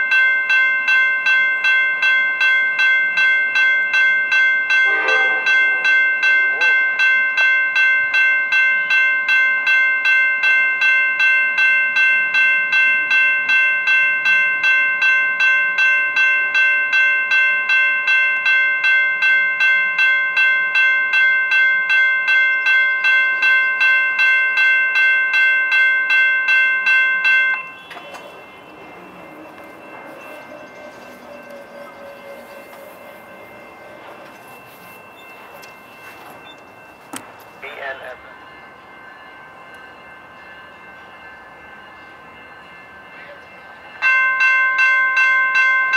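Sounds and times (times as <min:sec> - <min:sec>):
railroad crossing bell ringing: 0:00.0 - 0:45.9.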